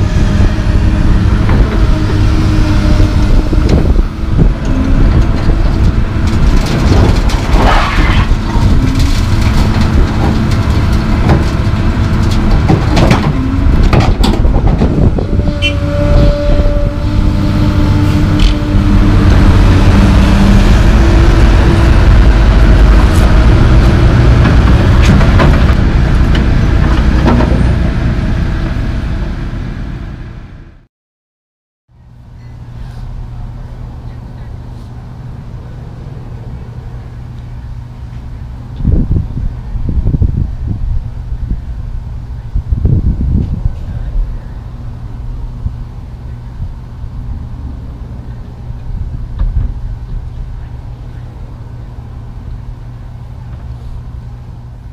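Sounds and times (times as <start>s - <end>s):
excavator diesel engine: 0.0s - 30.9s, 32.0s - 54.9s.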